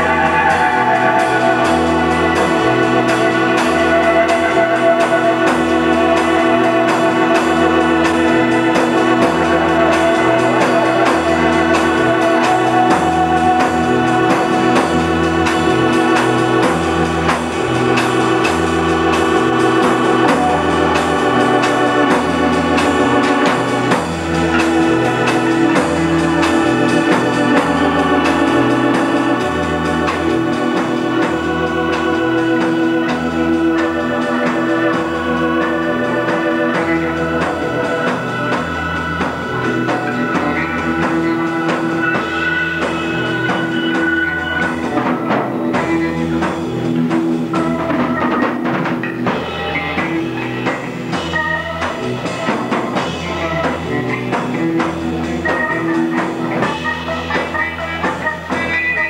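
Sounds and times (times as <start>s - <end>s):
drums and cymbals: 0.0s - 59.0s
organ chords: 0.0s - 59.0s.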